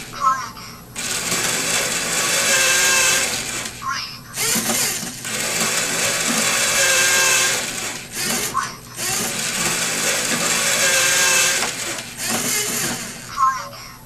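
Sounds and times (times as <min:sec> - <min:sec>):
toy motors and plastic gears whirring: 0:00.0 - 0:13.9.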